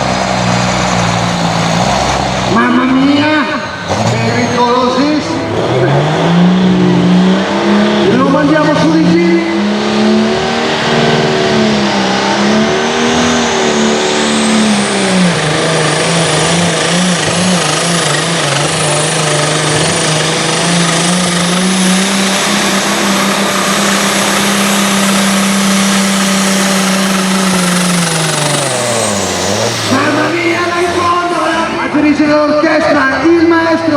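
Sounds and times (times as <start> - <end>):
tractor engine at full throttle: 0.0 - 33.9
high whine: 0.8 - 33.5.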